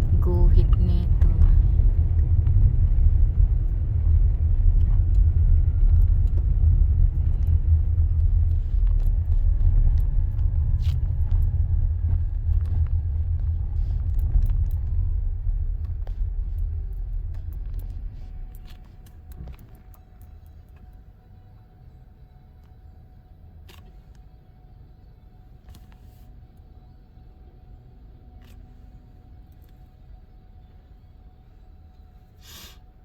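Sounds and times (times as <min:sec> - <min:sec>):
car rumble inside cabin: 0:00.0 - 0:33.0.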